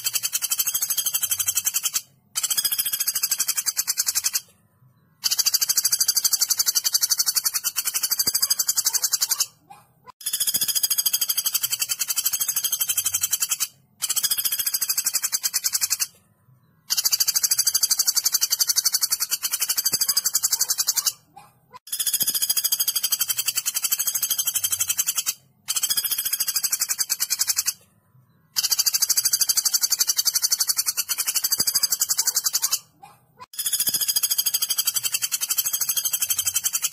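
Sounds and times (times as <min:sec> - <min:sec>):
woodpecker rattling trills: 0:00.0 - 0:04.5, 0:05.2 - 0:09.6, 0:10.2 - 0:16.2, 0:16.8 - 0:27.8, 0:28.5 - 0:36.9.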